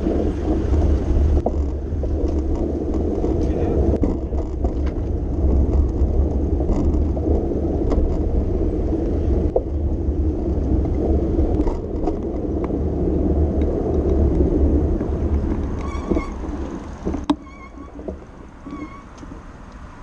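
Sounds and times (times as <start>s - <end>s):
low rumble of bicycle ride: 0.0s - 20.0s.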